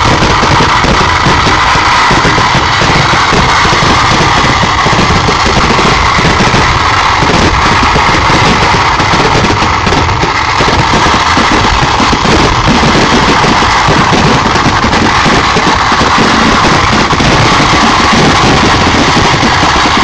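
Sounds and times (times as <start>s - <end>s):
firecrackers rattling: 0.0s - 20.0s.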